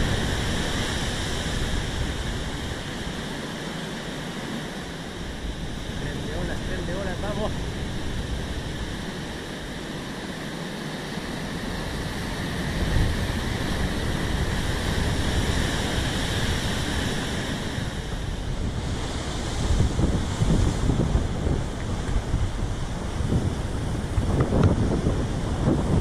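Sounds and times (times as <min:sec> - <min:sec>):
wind gusts buffeting microphone: 0:00.0 - 0:10.2, 0:11.2 - 0:26.0
heavy surf crashing on rocks: 0:00.0 - 0:26.0.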